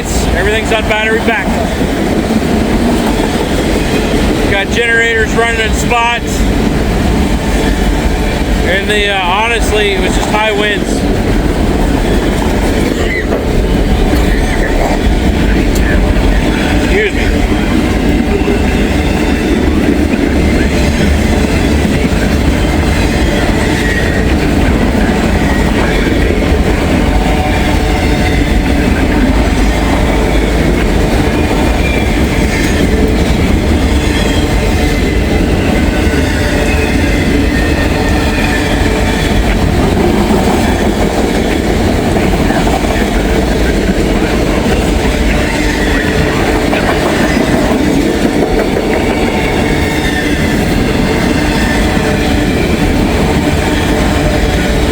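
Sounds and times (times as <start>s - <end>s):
freight train rumbling past: 0.0s - 54.9s
wheels clacking over rail joints: 0.0s - 54.9s.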